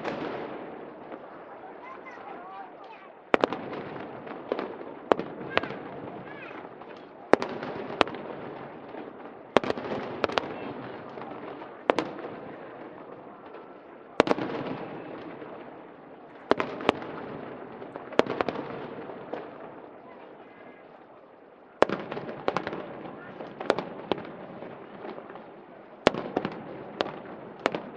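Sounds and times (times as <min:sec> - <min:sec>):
crowd murmur: 0:00.0 - 0:27.9
fireworks bangs with echo: 0:00.0 - 0:27.9.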